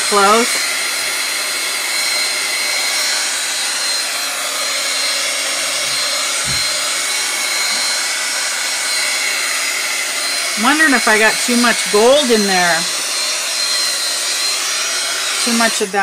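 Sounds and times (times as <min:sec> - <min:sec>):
hot-air blower whining: 0:00.0 - 0:16.0.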